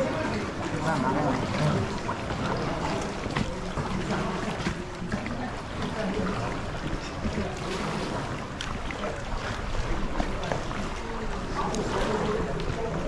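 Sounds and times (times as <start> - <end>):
small splashes: 0.0 - 13.0
water lapping around kayak: 0.0 - 13.0.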